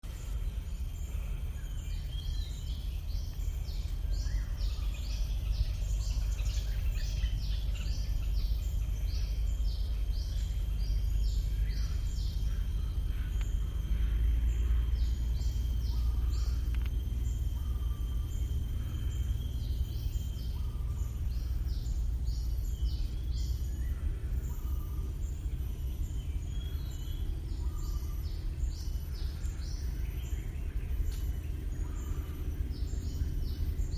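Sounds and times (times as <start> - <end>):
birds chirping: 0.0 - 33.9
low rumble: 0.0 - 33.9.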